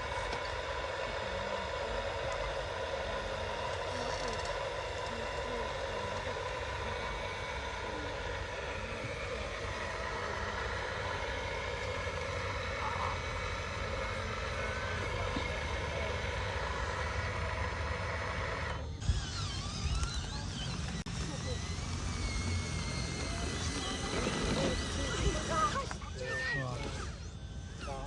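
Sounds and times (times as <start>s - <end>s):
small electric motors whining: 0.0s - 28.0s.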